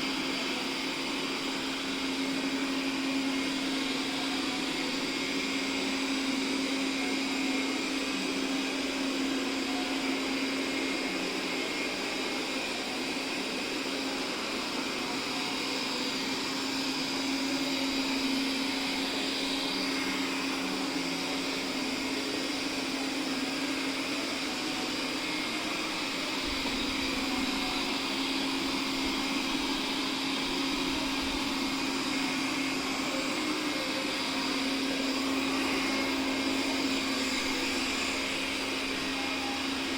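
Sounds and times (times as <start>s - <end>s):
robot vacuum cleaner running: 0.0s - 39.9s.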